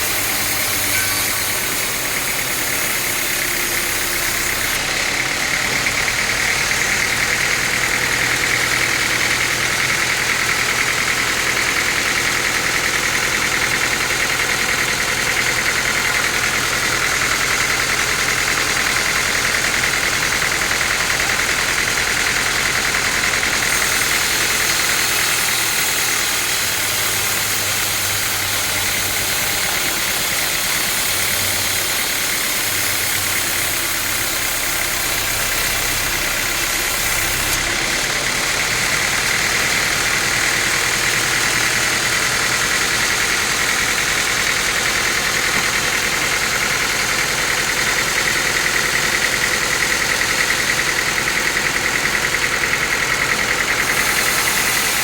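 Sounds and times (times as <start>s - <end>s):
engine hum: 0.0s - 55.0s
high machinery whine: 0.0s - 55.0s.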